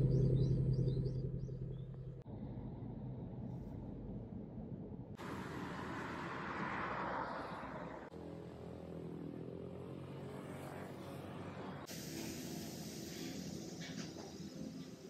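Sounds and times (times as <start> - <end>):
vehicle passing: 0.0 - 12.3
steady hum of engines: 0.0 - 15.0.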